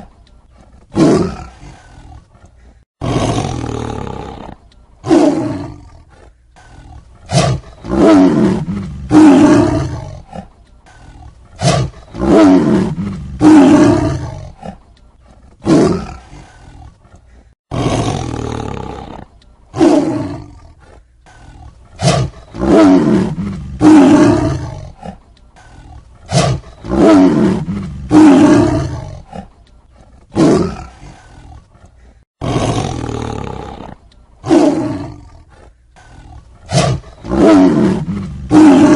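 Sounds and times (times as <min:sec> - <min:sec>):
tiger roaring and snarling: 0:00.0 - 0:38.9.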